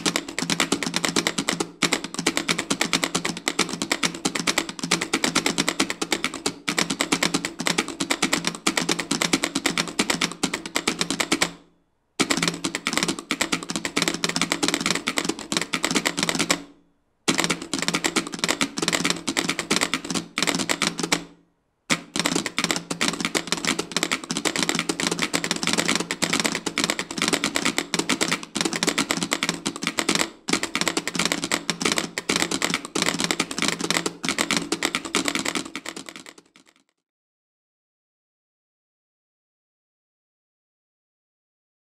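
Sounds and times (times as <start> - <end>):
telegraph keys clicking: 0.0 - 11.6, 12.2 - 16.7, 17.3 - 21.3, 21.9 - 36.8.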